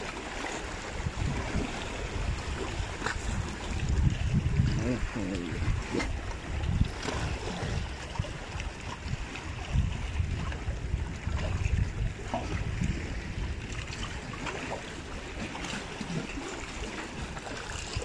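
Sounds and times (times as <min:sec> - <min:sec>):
waves washing against rocks: 0:00.0 - 0:18.0.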